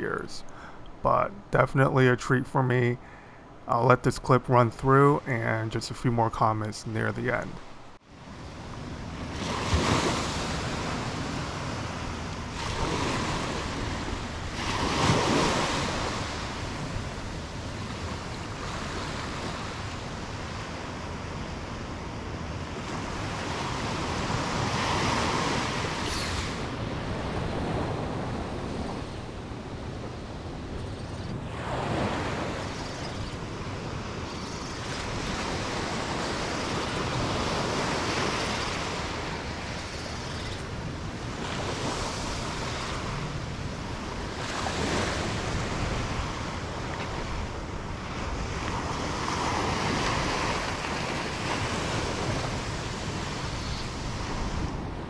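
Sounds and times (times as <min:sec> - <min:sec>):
small waves breaking on beach: 0:07.3 - 0:55.0
wind rumbling on microphone: 0:08.2 - 0:55.0.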